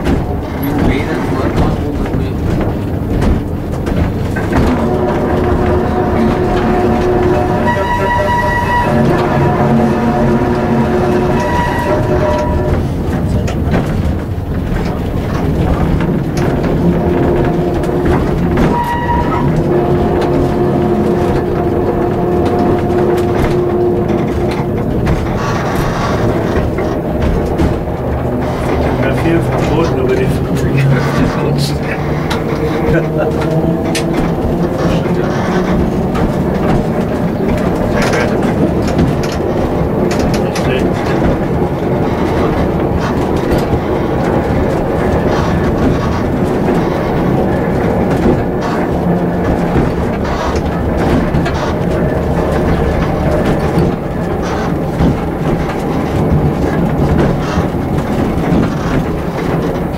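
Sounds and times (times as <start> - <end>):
clicks over rail joints: 0.0 - 59.9
tram wheels rumbling on rail: 0.0 - 59.9.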